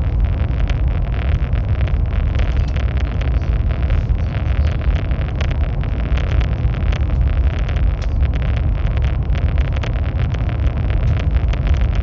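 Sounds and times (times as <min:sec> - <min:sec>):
high-speed train rumbling: 0:00.0 - 0:12.0
faint irregular clicks: 0:00.1 - 0:12.0.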